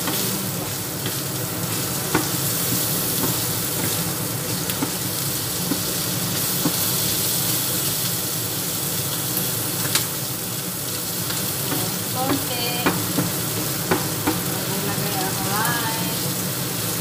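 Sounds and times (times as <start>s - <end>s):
sausage sizzling in oil: 0.0s - 17.0s.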